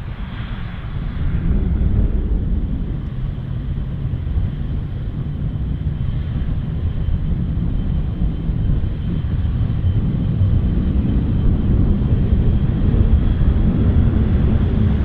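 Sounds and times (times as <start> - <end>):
jet engines deep rumble: 0.0 - 15.0.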